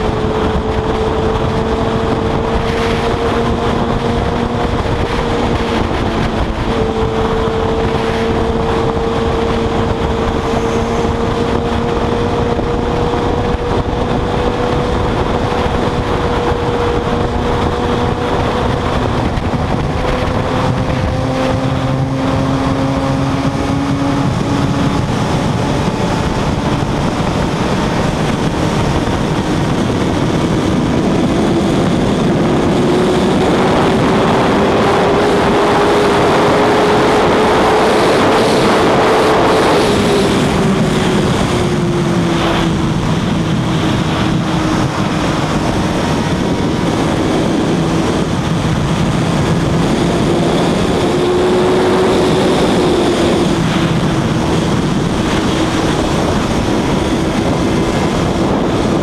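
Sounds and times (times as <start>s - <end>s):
motorcycle engine at high speed: 0.0s - 59.0s
wind rush: 0.0s - 59.0s.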